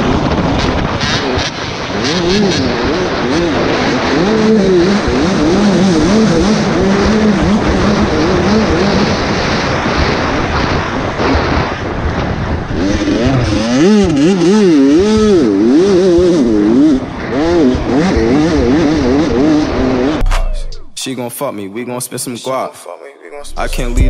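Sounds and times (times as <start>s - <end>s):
dirt bike engine revving: 0.0s - 21.0s
wind rushing: 0.0s - 21.0s
track noise: 0.0s - 24.0s.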